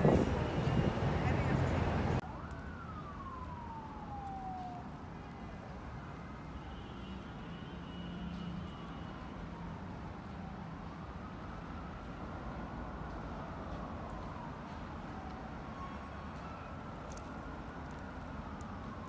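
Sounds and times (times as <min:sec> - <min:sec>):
distant siren wailing: 0:00.0 - 0:19.0
street traffic hum: 0:00.0 - 0:19.0.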